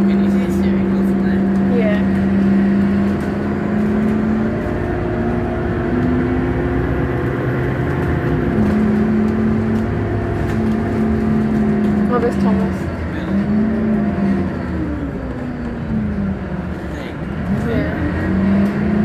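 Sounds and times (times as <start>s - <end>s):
bus engine humming and whining: 0.0s - 19.0s.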